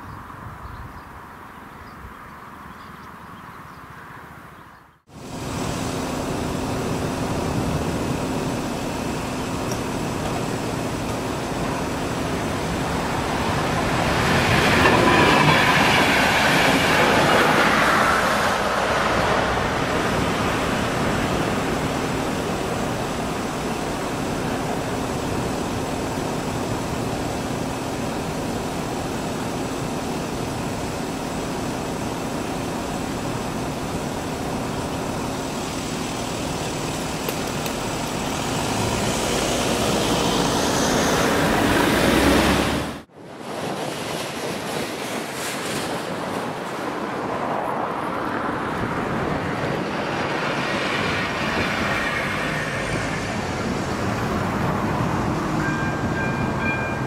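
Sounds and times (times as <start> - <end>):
train passing on rails: 5.1 - 57.0.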